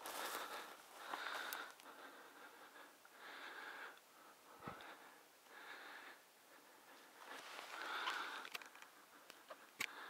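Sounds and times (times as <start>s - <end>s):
slow breathing: 0.0s - 10.0s.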